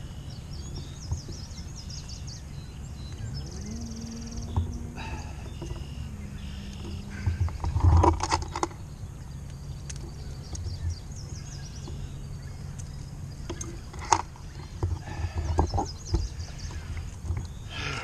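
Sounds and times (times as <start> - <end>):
birds chirping: 0.0 - 18.0
faint low hum: 0.0 - 18.0.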